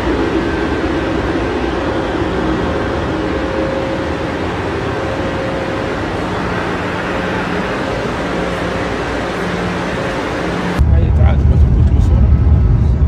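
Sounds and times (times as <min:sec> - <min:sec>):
high-speed train humming: 0:00.0 - 0:13.0.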